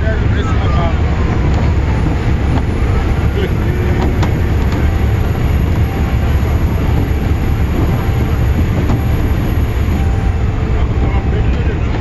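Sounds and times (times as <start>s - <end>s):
bus engine rumble and road noise: 0.0s - 12.0s.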